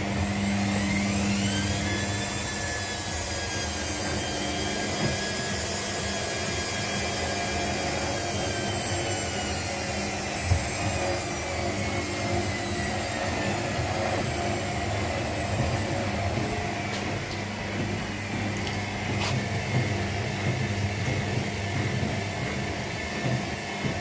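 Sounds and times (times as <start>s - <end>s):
high motor whine: 0.0s - 24.0s
washing machines running: 0.0s - 24.0s.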